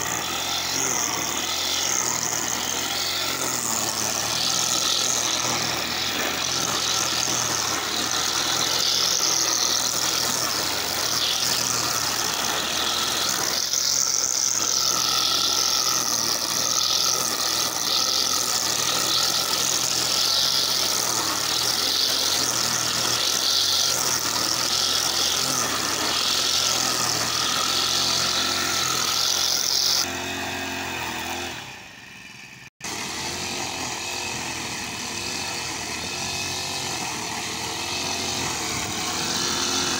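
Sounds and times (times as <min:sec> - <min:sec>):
brush cutter cutting grass: 0:00.0 - 0:39.9.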